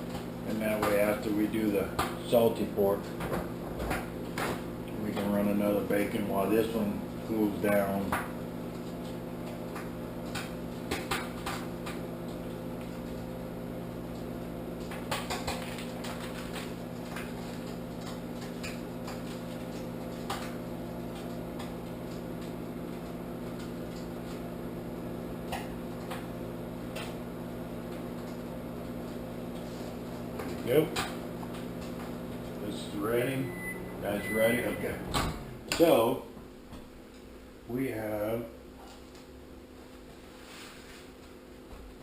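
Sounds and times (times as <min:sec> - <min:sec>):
microwave oven humming: 0:00.0 - 0:42.0.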